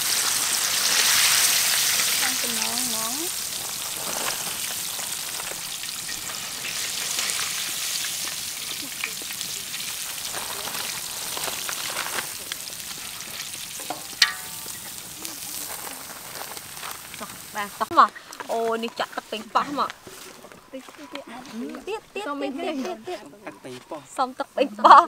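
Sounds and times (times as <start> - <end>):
hot oil sizzling and crackling: 0.0 - 25.0.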